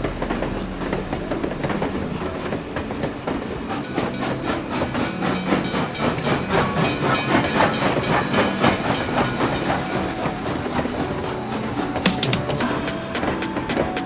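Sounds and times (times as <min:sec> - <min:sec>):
train rumble: 0:00.0 - 0:14.0
train wheels clacking on rails: 0:00.0 - 0:14.0.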